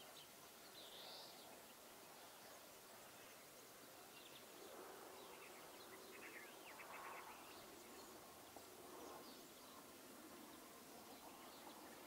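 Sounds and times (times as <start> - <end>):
low steady background hiss: 0.0 - 12.0.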